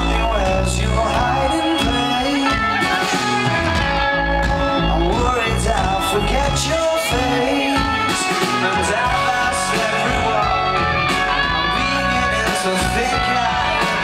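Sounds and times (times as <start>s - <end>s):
man singing: 0.0s - 3.5s, 4.8s - 14.0s
bass guitar: 0.0s - 14.0s
drums: 0.0s - 14.0s
electric guitars: 0.0s - 14.0s.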